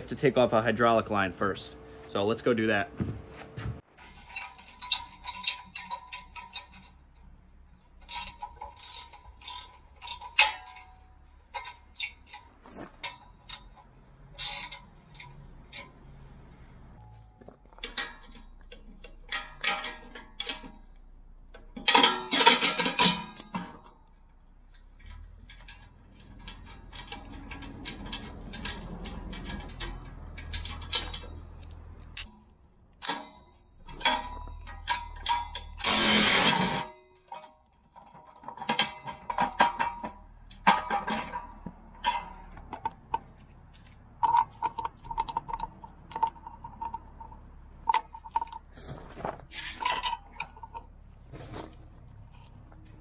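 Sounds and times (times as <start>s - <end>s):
metal tools clinking and clanking: 3.9s - 16.0s, 17.0s - 53.0s.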